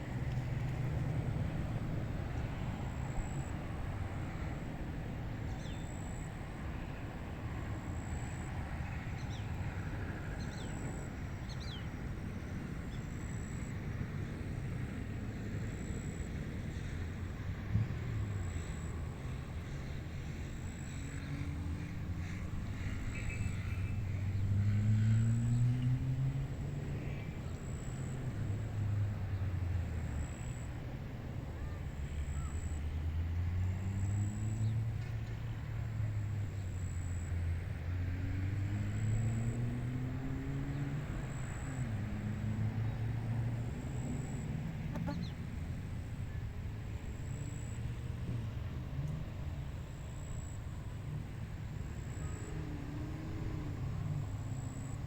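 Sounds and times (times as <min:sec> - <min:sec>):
distant vehicle engine hum: 0:00.0 - 0:55.0
wind: 0:00.0 - 0:55.0.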